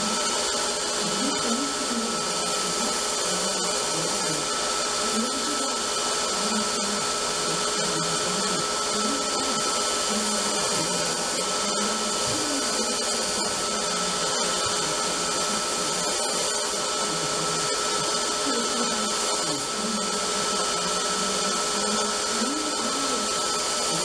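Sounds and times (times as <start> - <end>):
belt sander whining on steel: 0.0 - 24.0.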